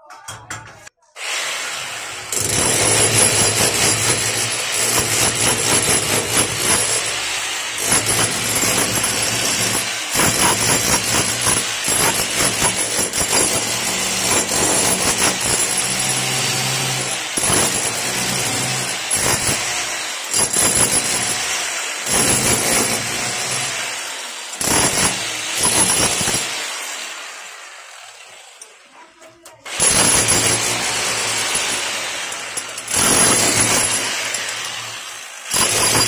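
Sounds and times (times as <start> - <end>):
wall cutter grinding brick: 1.2 - 36.0.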